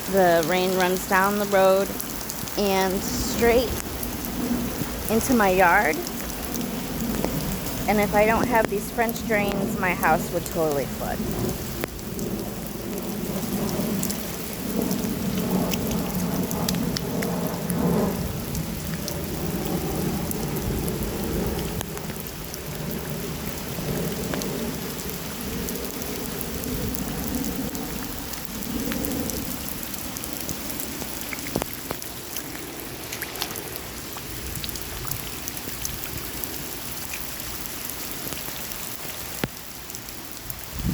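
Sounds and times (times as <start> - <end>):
heavy rain falling: 0.0 - 40.9
rain drop ticks: 0.0 - 40.9.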